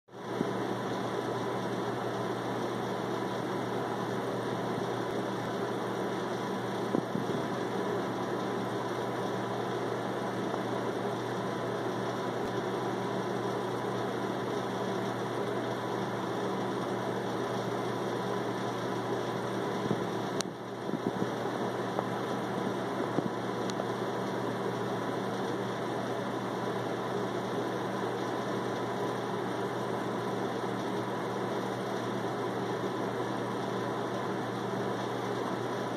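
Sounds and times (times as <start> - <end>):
faint constant tone: 0.2 - 35.9
machine hum: 0.2 - 35.9.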